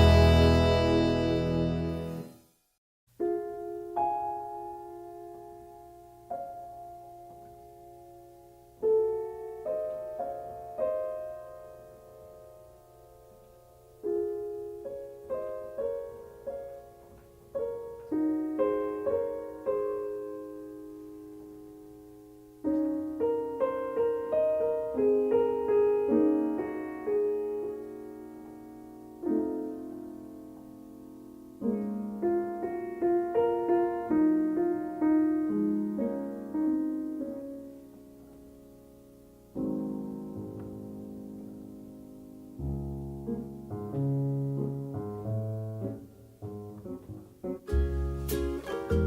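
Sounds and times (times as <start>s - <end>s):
solo piano music: 0.0s - 49.0s.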